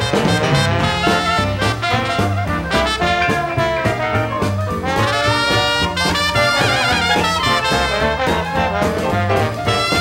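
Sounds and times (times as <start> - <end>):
swing jazz with brass: 0.0 - 10.0.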